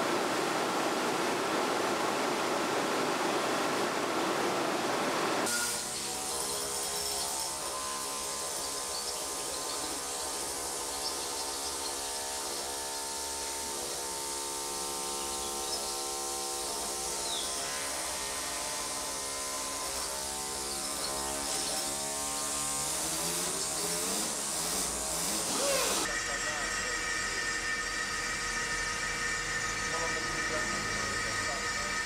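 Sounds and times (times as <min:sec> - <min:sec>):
electric grinder motor whine: 0:05.4 - 0:32.0
grinding disc on marble: 0:05.5 - 0:14.1, 0:14.8 - 0:32.0.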